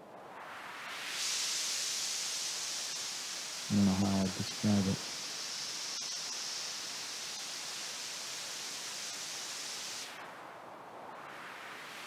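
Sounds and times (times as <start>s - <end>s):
filtered synth white noise hiss: 0.0s - 12.0s.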